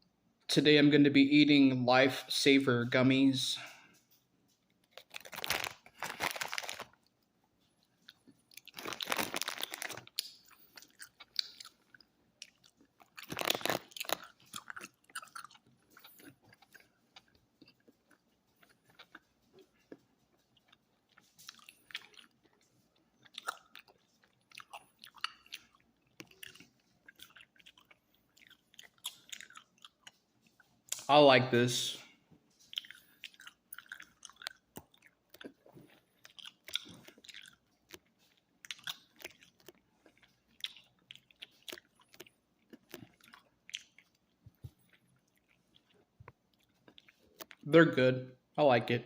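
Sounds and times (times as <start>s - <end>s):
chewing gummy candies: 3.6s - 31.2s, 32.5s - 47.7s
crunchy chewing bursts: 3.9s - 31.2s, 32.5s - 47.7s.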